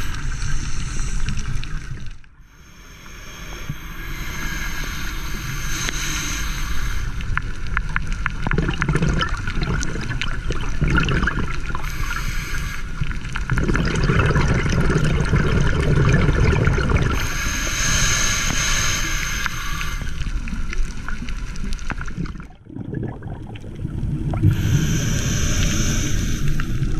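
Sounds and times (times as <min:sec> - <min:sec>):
exhaled bubbles gurgling: 0:00.0 - 0:26.9.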